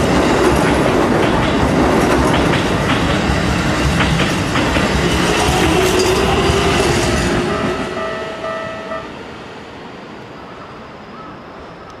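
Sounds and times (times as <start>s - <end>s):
electric train passing: 0.0s - 11.9s.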